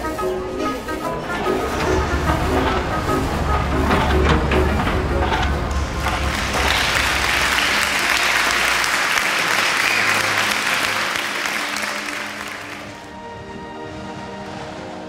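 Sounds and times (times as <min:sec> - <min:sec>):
sustained music notes: 0:00.0 - 0:15.0
audience applauding: 0:00.9 - 0:13.2.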